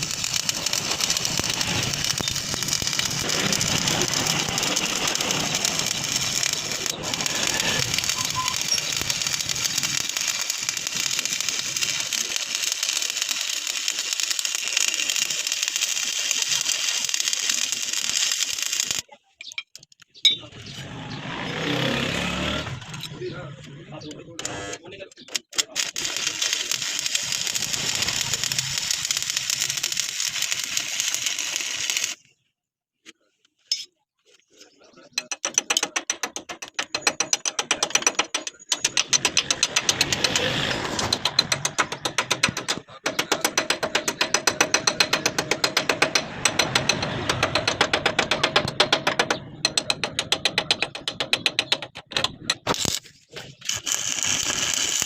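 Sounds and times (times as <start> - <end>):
arc welding crackling: 0.0 - 19.0, 25.4 - 32.2, 35.7 - 55.0.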